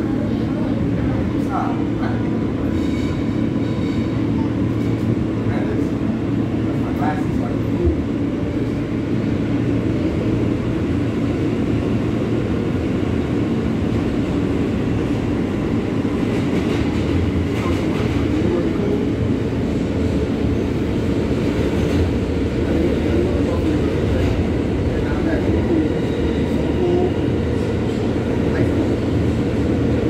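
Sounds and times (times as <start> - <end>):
subway train wheels rumbling on rail: 0.0 - 30.0.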